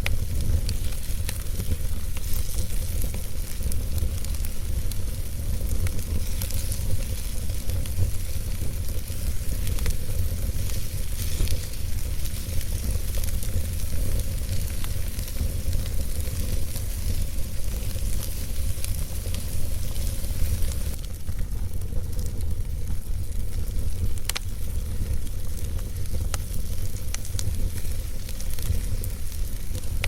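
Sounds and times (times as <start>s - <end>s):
logs crackling and popping: 0.0s - 30.0s
wood fire burning: 0.0s - 30.0s.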